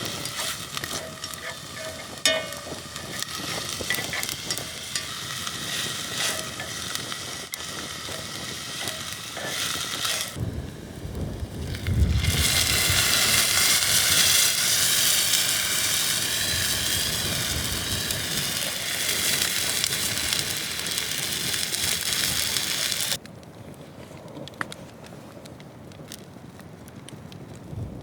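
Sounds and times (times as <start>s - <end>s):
wood fire hissing and crackling: 0.0s - 28.0s.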